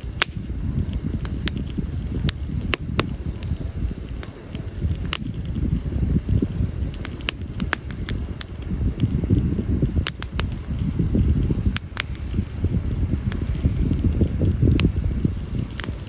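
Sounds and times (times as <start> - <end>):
campfire pops and snaps: 0.0 - 16.0
fire fluttering rumble: 0.0 - 16.0.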